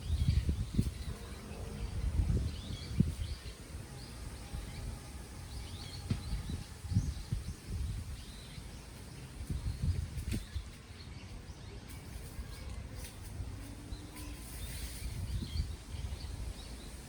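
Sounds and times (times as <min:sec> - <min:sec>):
wind buffeting microphone: 0:00.0 - 0:12.5, 0:13.1 - 0:17.0
small birds chirping: 0:00.0 - 0:17.0.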